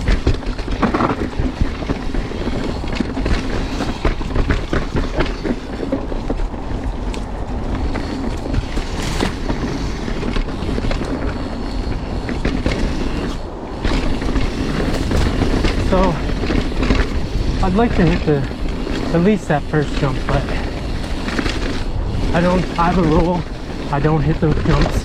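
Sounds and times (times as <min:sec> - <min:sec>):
bike clicking and rattling: 0:00.0 - 0:25.0
tyre and wind noise: 0:00.0 - 0:25.0.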